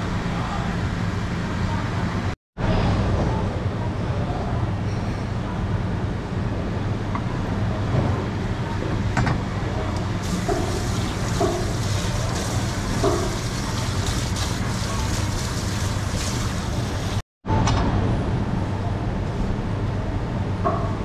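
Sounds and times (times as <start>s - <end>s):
background din with low hum: 0.0s - 21.0s.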